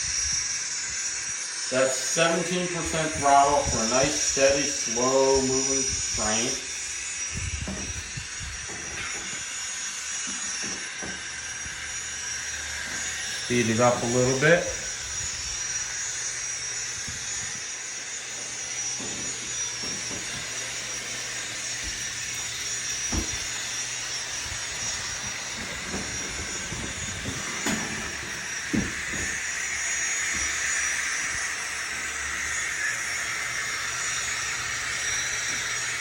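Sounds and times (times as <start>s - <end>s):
model locomotive turbine hiss: 0.0s - 36.0s.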